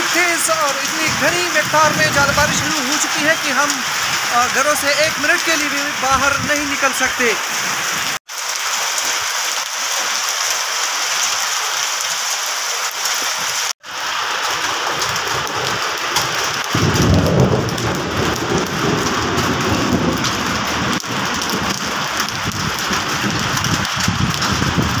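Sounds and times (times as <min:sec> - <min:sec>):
hail and rain pelting down: 0:00.0 - 0:25.0.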